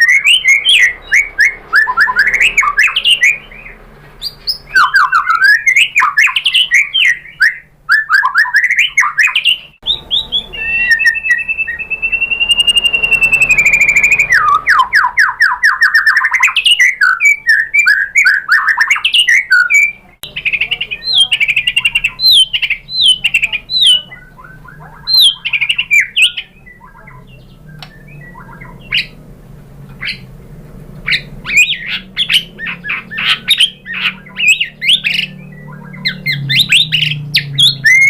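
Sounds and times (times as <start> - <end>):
bird singing: 0.0 - 38.0.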